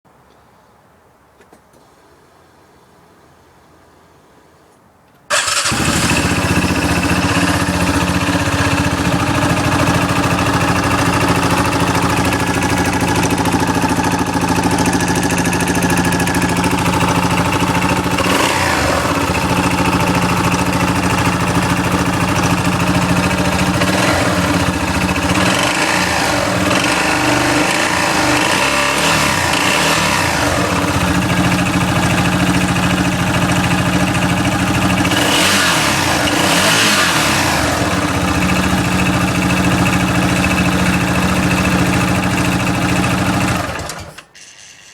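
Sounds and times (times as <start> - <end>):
utility vehicle engine rattling: 5.3 - 44.7.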